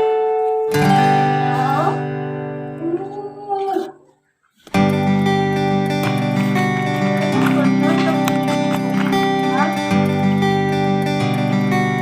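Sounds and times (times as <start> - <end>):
strummed acoustic guitar music: 0.0 - 3.4, 4.6 - 12.0.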